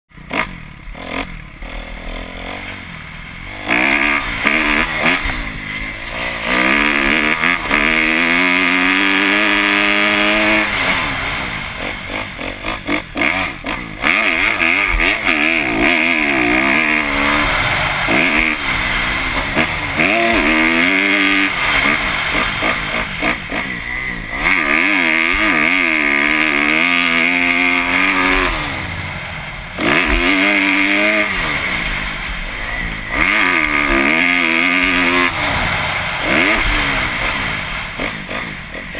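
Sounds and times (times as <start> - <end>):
motocross engine revving: 0.1 - 38.9.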